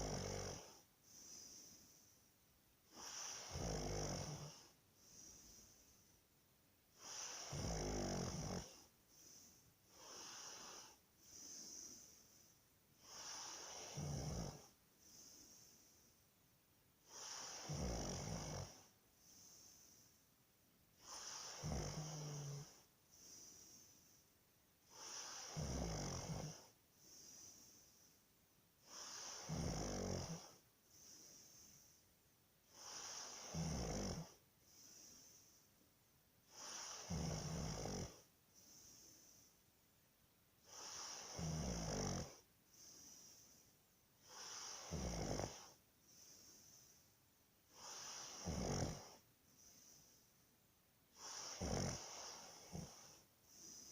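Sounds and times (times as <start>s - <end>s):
person snoring: 0.0s - 2.1s, 2.9s - 5.9s, 7.0s - 16.0s, 17.1s - 20.1s, 21.0s - 24.2s, 24.9s - 28.1s, 28.8s - 32.0s, 32.7s - 35.6s, 36.5s - 39.5s, 40.6s - 43.6s, 44.2s - 47.0s, 47.7s - 50.2s, 51.2s - 53.9s
soft breathing: 0.0s - 39.9s, 40.6s - 53.9s.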